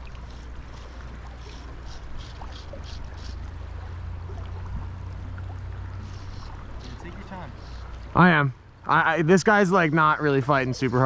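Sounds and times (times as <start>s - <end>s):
low constant rumble: 0.0s - 11.0s
river water flowing: 0.0s - 11.0s.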